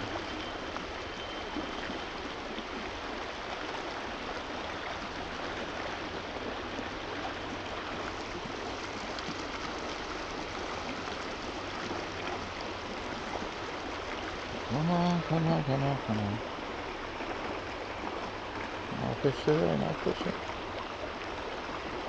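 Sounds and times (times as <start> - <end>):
stream water running: 0.0 - 22.0.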